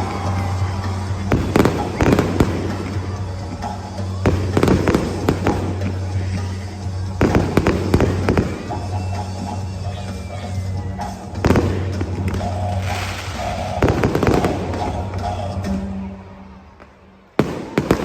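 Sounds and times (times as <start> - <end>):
fireworks bursting with bangs: 0.0 - 18.0
fireworks crackling: 0.0 - 18.0.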